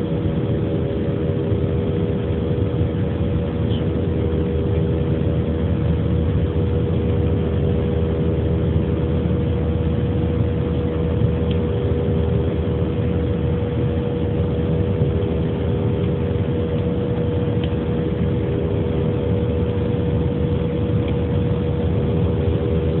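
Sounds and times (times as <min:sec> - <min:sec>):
jet engines and airflow rumble: 0:00.0 - 0:23.0.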